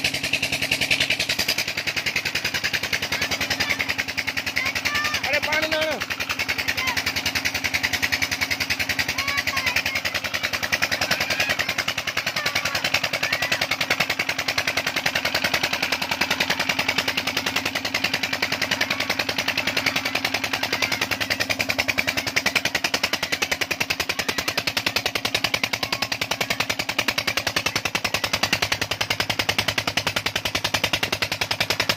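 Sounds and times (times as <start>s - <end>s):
diesel engine knocking: 0.0s - 31.9s.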